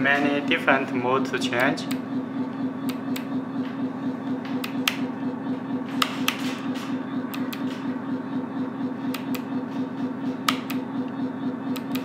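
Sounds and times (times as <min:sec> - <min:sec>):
simulated diesel engine idling: 0:00.0 - 0:12.0.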